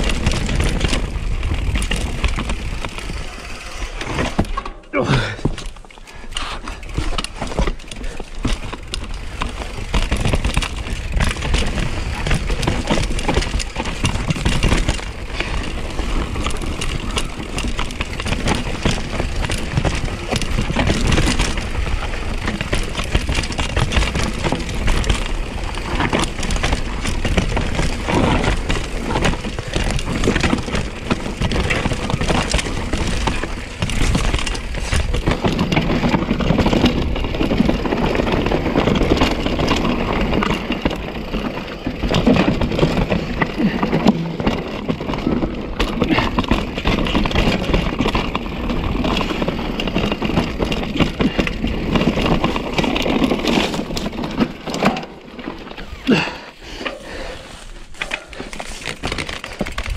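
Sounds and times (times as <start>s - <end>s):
bike rattling and knocking: 0.0s - 59.9s
tyres rolling over dirt and rock: 0.0s - 59.9s.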